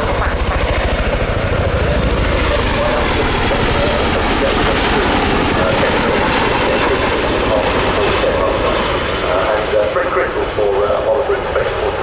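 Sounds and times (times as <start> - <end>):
helicopter rotors beating: 0.0 - 12.0
turbine engine whine: 0.0 - 12.0.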